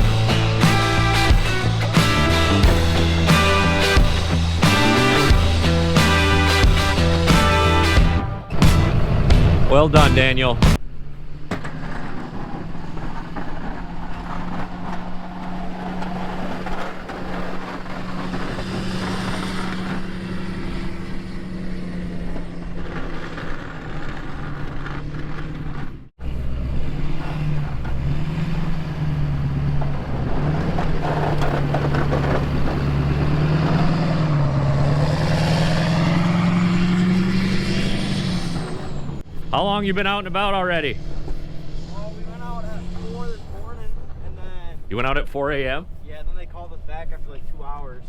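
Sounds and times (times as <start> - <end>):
truck engine running: 0.0 - 47.6.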